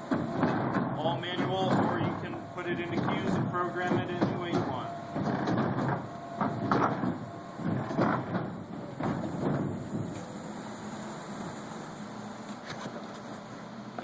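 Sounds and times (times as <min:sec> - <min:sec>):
motorized turntable running: 0:00.0 - 0:14.0.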